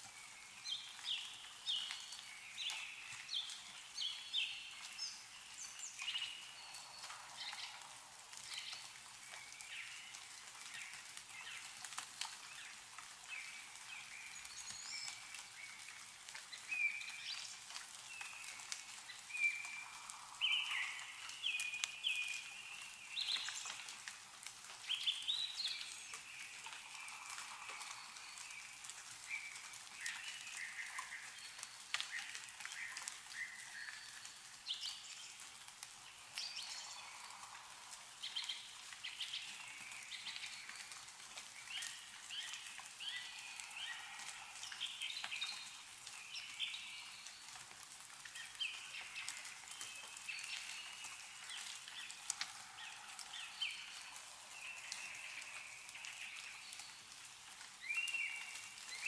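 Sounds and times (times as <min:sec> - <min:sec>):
meltwater dripping: 0:00.0 - 0:59.0
small birds chirping: 0:00.1 - 0:59.0.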